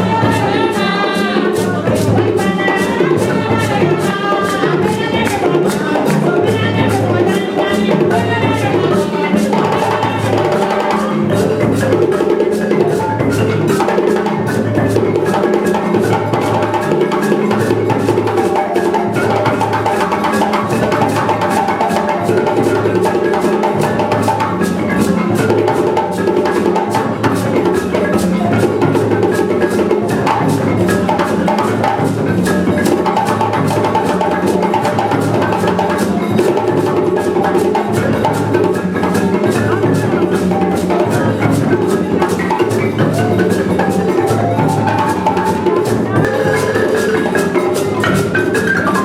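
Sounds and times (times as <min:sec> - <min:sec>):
fast drum and wood strokes: 0:09.0 - 0:49.0.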